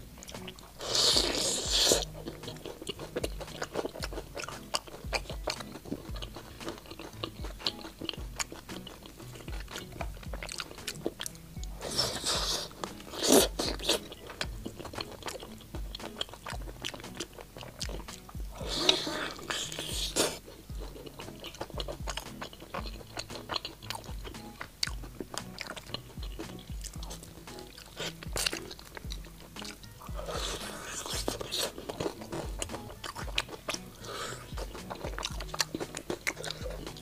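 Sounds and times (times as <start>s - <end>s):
background music: 0.0s - 37.0s
crunching fried chicken: 0.0s - 37.0s.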